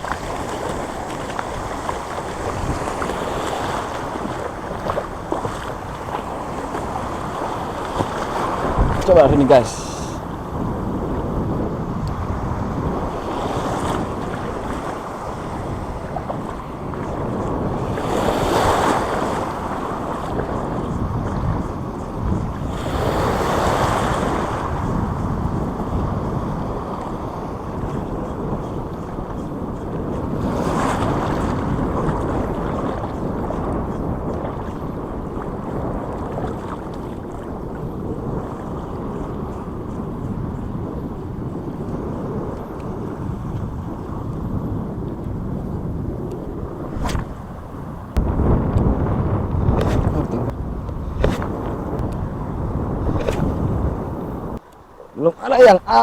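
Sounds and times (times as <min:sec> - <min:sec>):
sea waves washing on shore: 0:00.0 - 0:56.0
wind buffeting microphone: 0:00.0 - 0:56.0.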